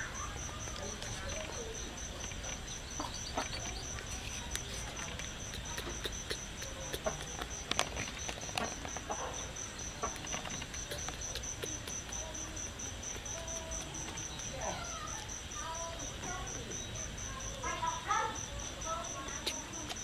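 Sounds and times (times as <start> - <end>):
insect chirping: 0.0 - 20.0
baby monkey sucking clicks: 0.2 - 20.0.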